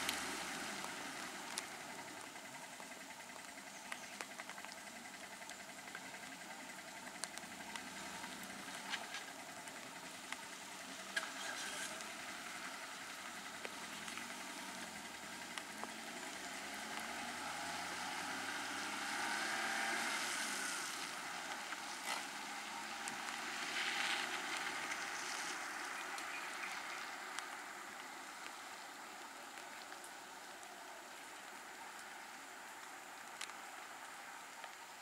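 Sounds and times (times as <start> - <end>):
engines idling: 0.0 - 35.0.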